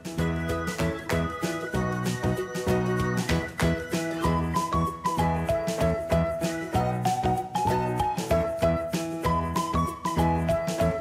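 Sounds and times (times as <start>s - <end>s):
melodic background music with beat: 0.0s - 11.0s.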